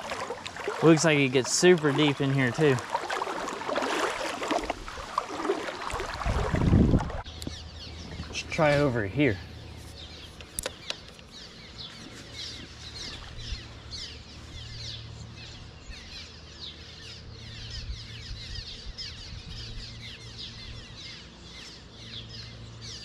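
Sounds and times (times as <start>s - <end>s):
many birds chirping: 0.0s - 4.5s, 7.2s - 23.0s
low steady hum: 0.0s - 23.0s.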